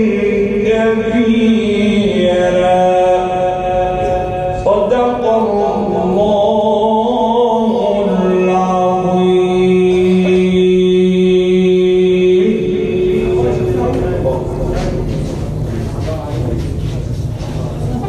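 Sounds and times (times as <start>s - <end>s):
man chanting: 0.0s - 16.8s.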